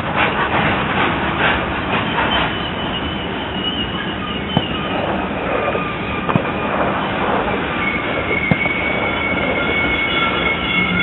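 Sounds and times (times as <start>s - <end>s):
train wheels rumbling on rail: 0.0s - 11.0s
high wheel squeal: 1.9s - 11.0s.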